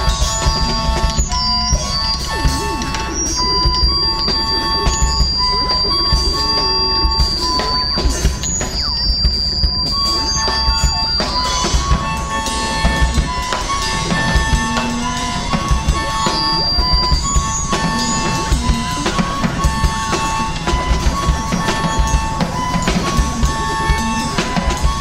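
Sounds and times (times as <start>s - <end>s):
drum kit kick and snare: 0.0s - 25.0s
synthesizer blips: 0.0s - 25.0s.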